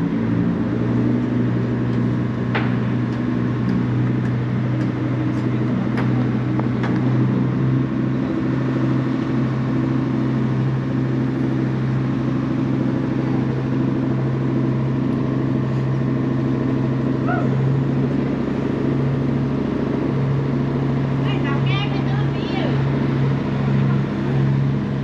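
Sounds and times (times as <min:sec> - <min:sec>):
ferry engine droning: 0:00.0 - 0:25.0.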